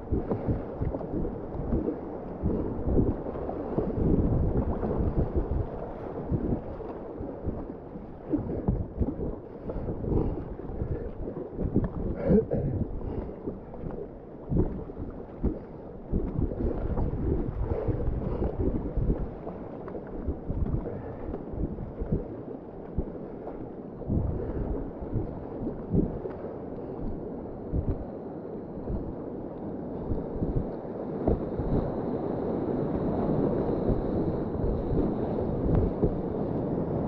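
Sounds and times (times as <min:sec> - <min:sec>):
paddle knocks and splashes: 0:00.0 - 0:28.0, 0:30.0 - 0:31.9, 0:33.2 - 0:36.3
wind buffeting microphone: 0:00.0 - 0:28.1, 0:28.7 - 0:29.2, 0:30.0 - 0:37.0.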